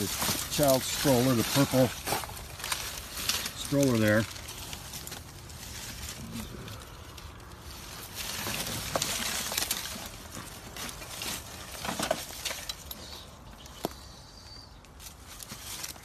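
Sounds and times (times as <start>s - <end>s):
rustling and scuffing: 0.0s - 6.7s, 7.6s - 16.0s.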